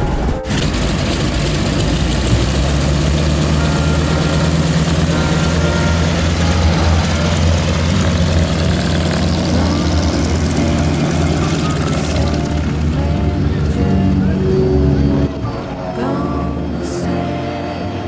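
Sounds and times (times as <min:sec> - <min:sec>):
propeller engines droning: 0:00.0 - 0:18.0.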